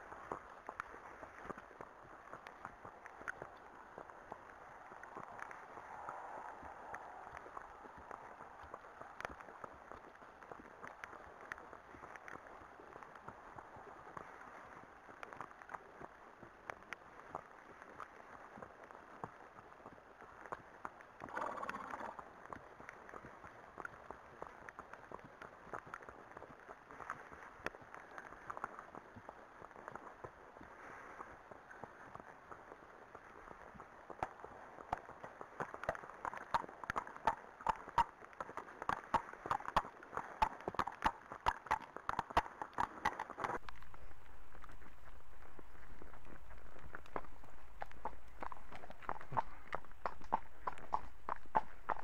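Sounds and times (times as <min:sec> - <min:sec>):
horse hooves clopping: 0:00.0 - 0:52.0.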